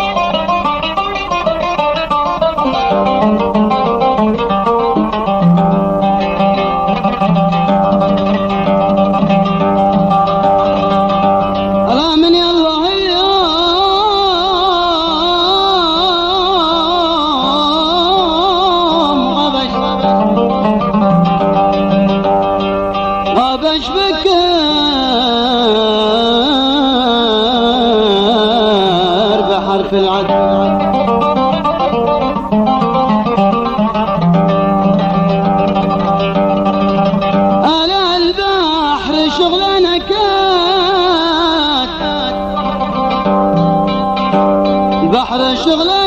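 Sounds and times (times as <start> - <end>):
plucked string melody: 0.0 - 46.0.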